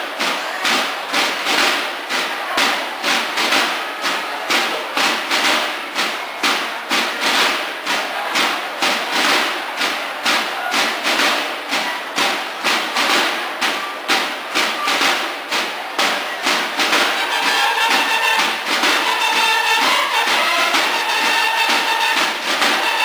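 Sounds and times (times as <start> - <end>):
snare drums playing march cadence: 0.0 - 23.0
bugles holding notes: 0.1 - 23.0.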